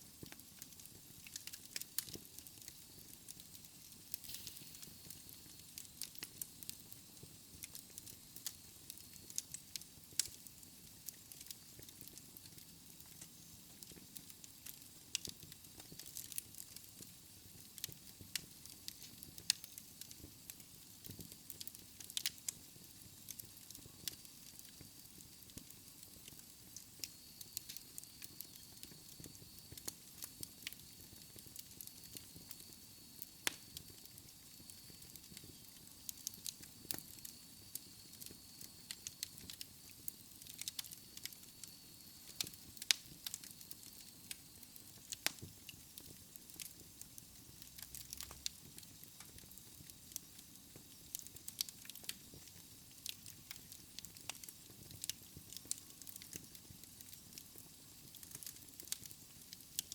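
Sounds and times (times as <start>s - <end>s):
low rumble and hiss of flames: 0.0s - 59.9s
wood fire popping and snapping: 0.0s - 59.9s.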